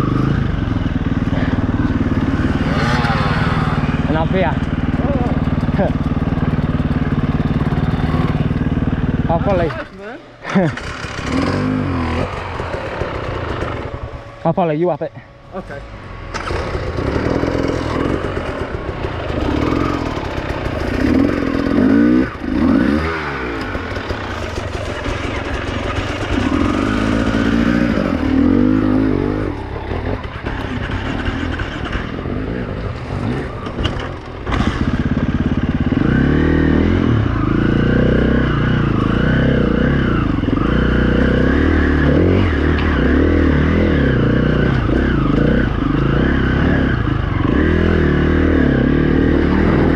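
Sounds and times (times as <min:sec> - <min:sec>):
dirt bike engine revving: 0:00.0 - 0:14.9, 0:15.6 - 0:49.9.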